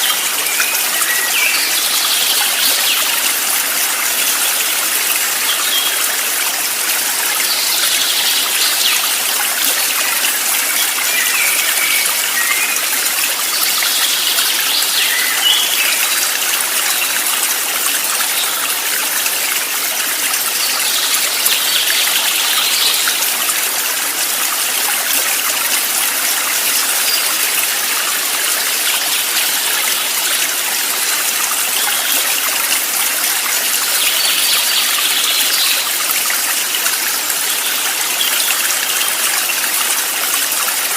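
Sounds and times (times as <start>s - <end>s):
stream rushing and trickling: 0.0s - 40.9s.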